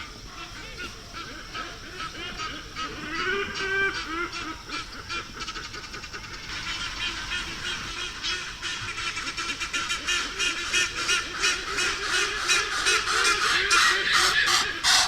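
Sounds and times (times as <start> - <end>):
hornbill harsh calls: 0.7 - 15.0.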